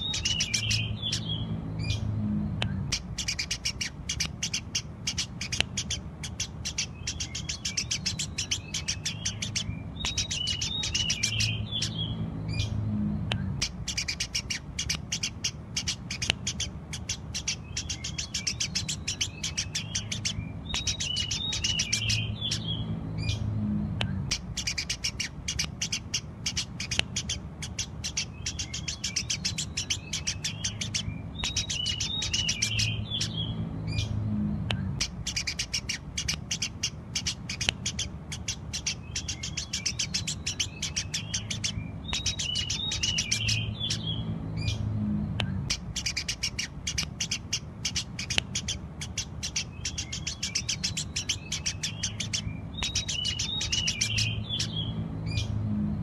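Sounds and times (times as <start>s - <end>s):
sparrows chirping: 0.0s - 56.0s
steady low hum: 0.0s - 56.0s.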